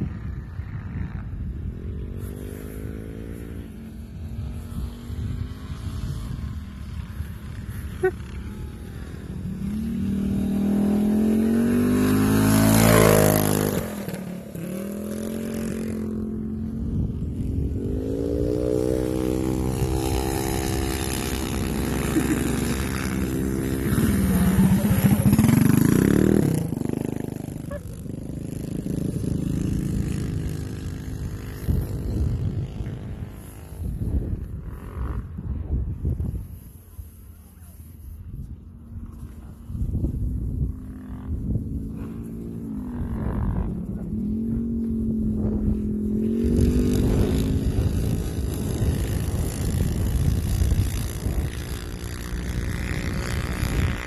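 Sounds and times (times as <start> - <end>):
minibike engines revving: 0.2 - 35.6, 38.8 - 54.0.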